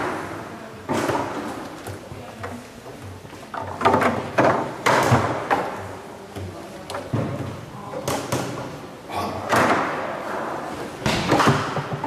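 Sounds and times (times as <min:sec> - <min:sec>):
foosball rods banging: 0:00.0 - 0:08.8, 0:09.4 - 0:12.0.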